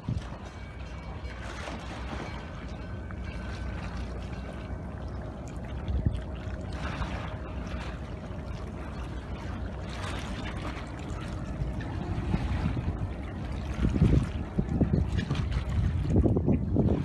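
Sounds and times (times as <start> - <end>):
wind buffeting microphone: 0.0 - 3.7, 4.5 - 17.0
water lapping against concrete: 0.0 - 17.0.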